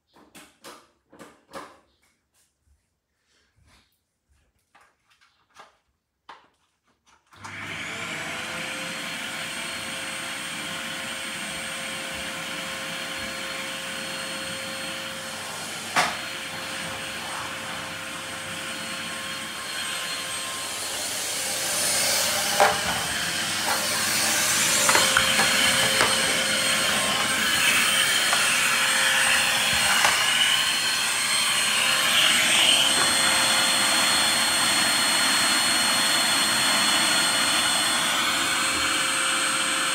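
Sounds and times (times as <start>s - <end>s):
vacuum cleaner motor whine: 7.4s - 39.9s.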